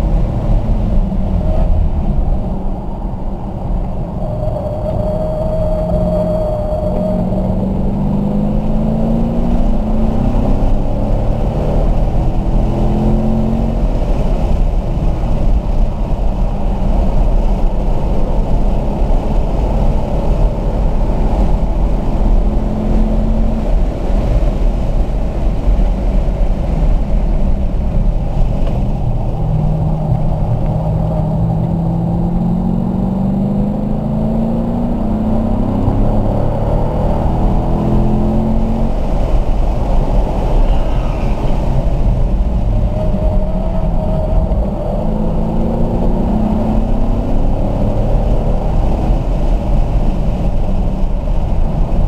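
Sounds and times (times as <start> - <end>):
car engine revving: 0.0 - 52.0
wind and road noise: 0.0 - 52.0.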